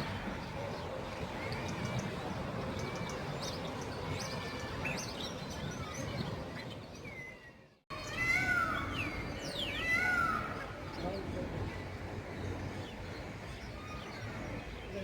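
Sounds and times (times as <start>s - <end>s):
birds chirping and calling: 0.2s - 15.0s.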